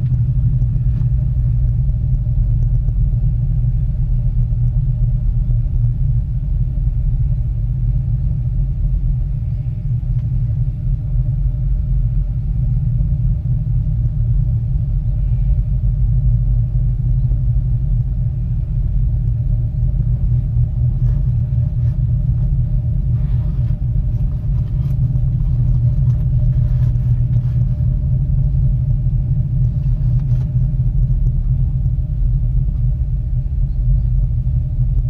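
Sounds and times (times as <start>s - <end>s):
faint steady hum: 0.0s - 35.0s
gondola cabin rumbling: 0.0s - 35.0s.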